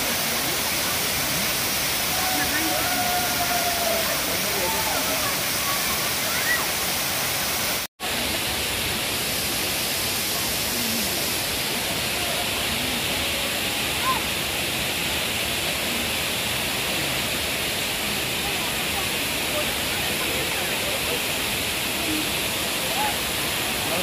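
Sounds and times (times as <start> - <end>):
faint voices: 0.0 - 24.0
waterfall rushing: 0.0 - 24.0.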